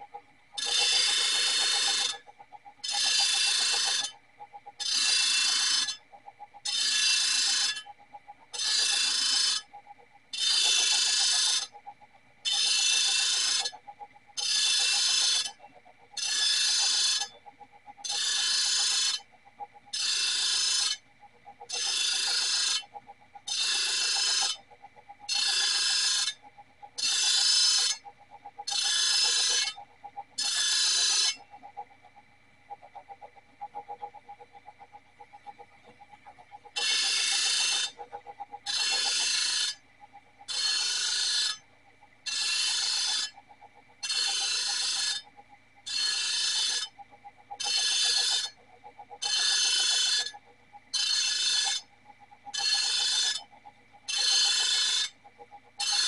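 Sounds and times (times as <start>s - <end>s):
faint machine whine: 0.0s - 56.0s.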